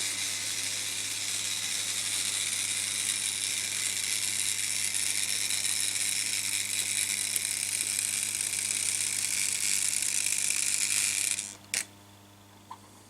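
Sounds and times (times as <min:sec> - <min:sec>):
model train whirring on rails: 0:00.0 - 0:11.6.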